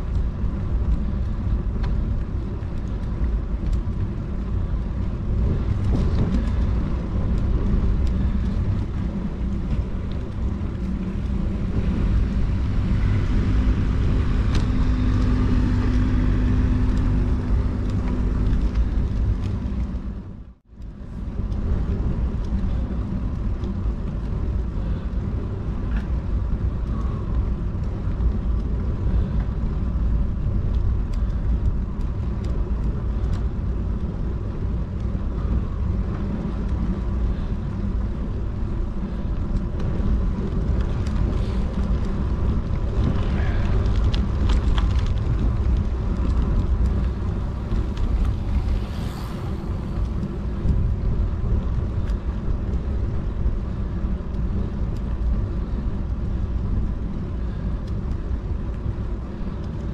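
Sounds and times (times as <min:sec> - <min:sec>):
wind and road noise while cycling: 0:00.0 - 0:59.9.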